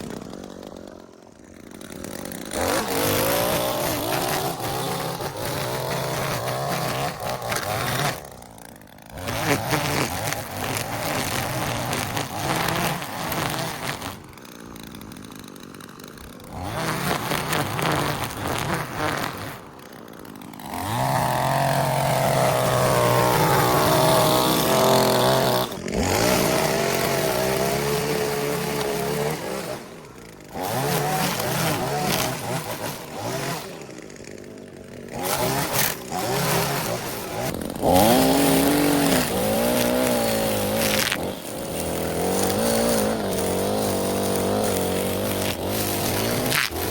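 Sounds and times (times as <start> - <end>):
small gasoline engine running: 0.0 - 46.9.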